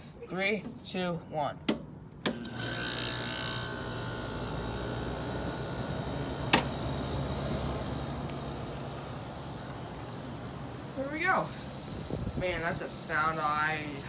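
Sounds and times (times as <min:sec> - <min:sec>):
air conditioner running: 0:00.0 - 0:14.0.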